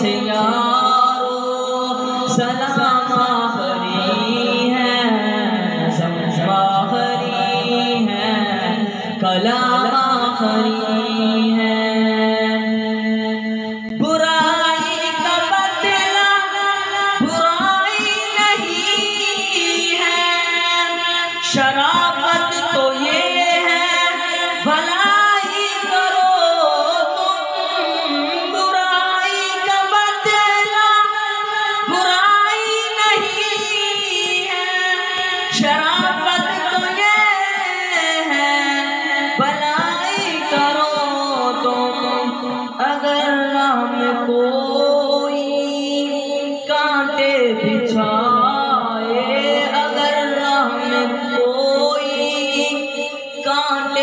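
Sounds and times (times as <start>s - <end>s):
man singing into microphone: 0.0s - 54.0s.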